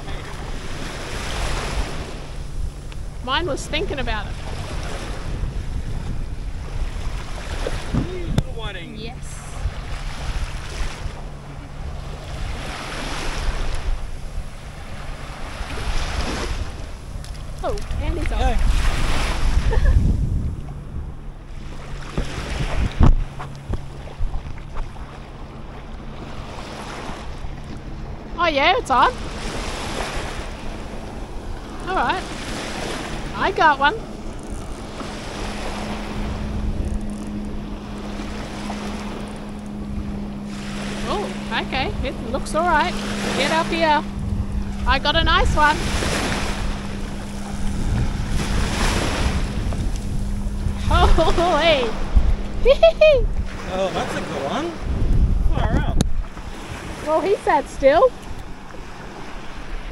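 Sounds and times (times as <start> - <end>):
small waves washing on sand: 0.0 - 20.8, 28.4 - 59.9
distant boat engine hum: 0.0 - 59.9
wind buffeting microphone: 0.0 - 59.9.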